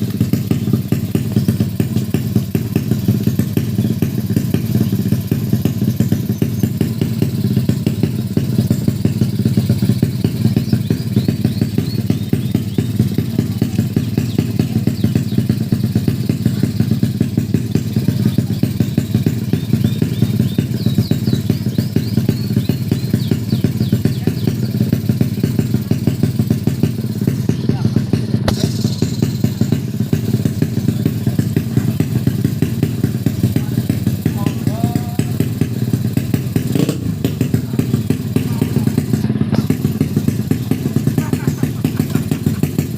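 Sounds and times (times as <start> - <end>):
motorcycle engine running steadily: 0.0 - 42.9.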